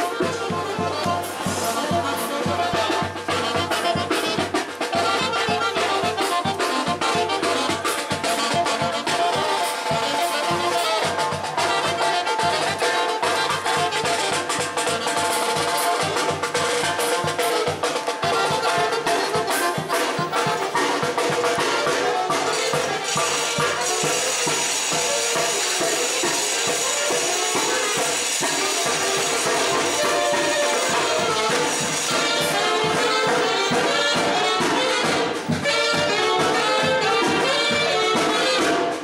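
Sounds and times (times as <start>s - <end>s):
jingling percussion: 0.0s - 37.7s
brass band playing a melody: 0.0s - 39.0s
cymbals: 0.0s - 39.0s.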